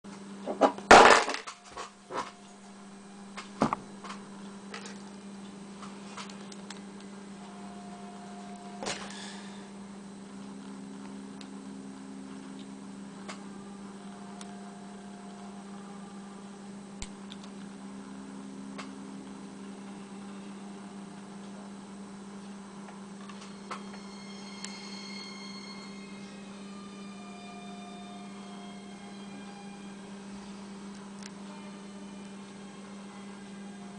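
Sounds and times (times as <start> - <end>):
electrical hum: 0.1 - 33.9.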